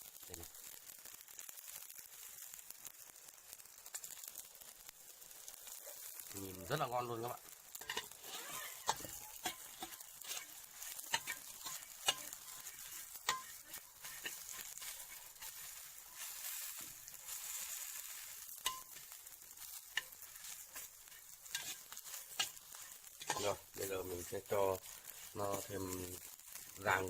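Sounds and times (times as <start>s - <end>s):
insects sizzling in frying pan: 0.0s - 27.0s.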